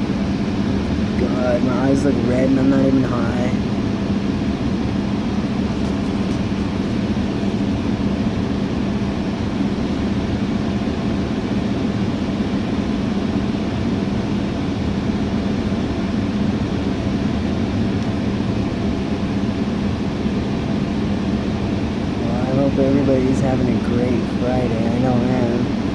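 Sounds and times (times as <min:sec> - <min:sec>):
bus engine drone: 0:00.0 - 0:25.9
constant low hum: 0:00.0 - 0:25.9
road noise: 0:00.0 - 0:25.9.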